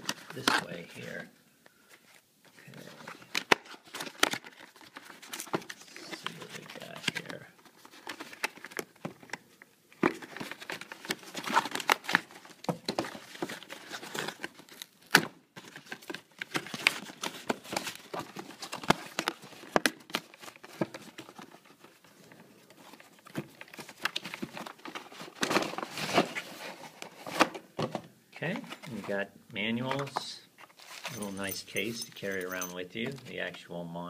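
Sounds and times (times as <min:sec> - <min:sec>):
cardboard and paper rustling: 0:00.0 - 0:01.2, 0:01.9 - 0:29.2, 0:29.8 - 0:33.6.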